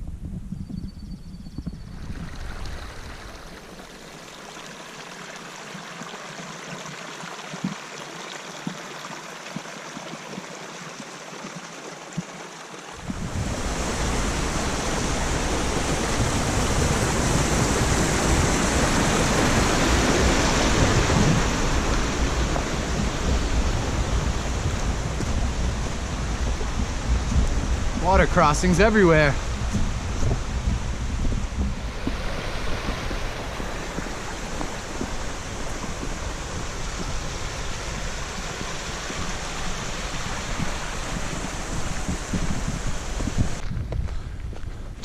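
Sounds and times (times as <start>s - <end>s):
stream rushing: 2.0s - 43.6s.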